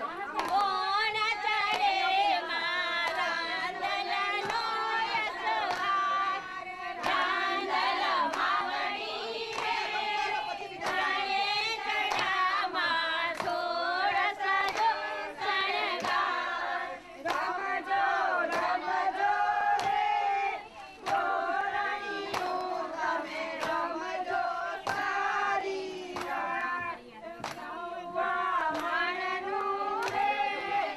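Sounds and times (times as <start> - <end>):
rhythmic hand claps: 0.0 - 30.9
women singing together: 0.0 - 30.9.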